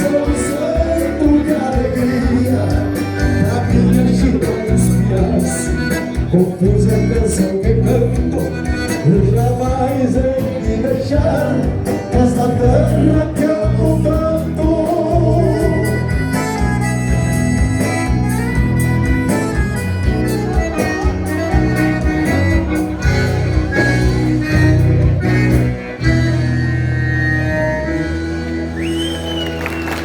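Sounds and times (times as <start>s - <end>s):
accordion-led band playing: 0.0s - 30.0s.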